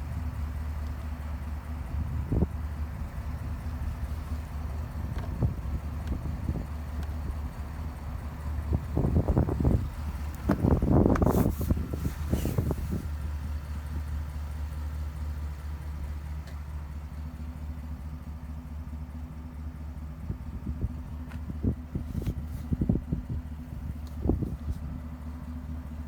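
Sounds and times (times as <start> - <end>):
pickup engine idling: 0.0 - 26.0.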